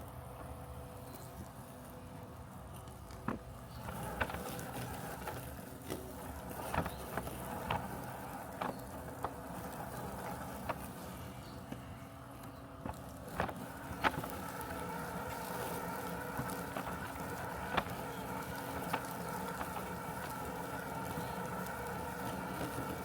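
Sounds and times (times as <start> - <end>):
robotic lawn mower humming: 0.0 - 23.0.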